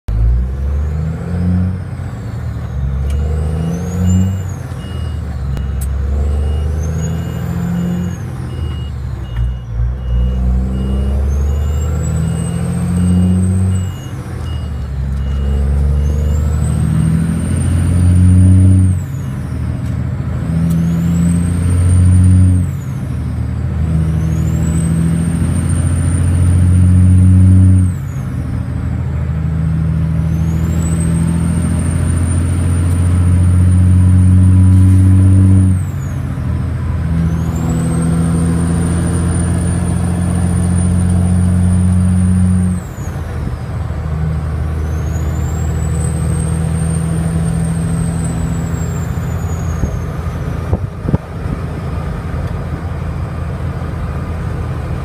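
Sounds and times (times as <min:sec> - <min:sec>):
truck diesel engine accelerating: 0:00.0 - 0:55.0.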